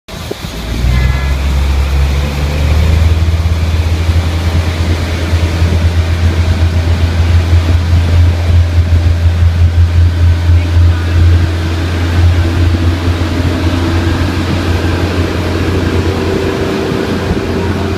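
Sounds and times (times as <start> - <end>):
heavy engine rumbling: 0.1 - 17.9.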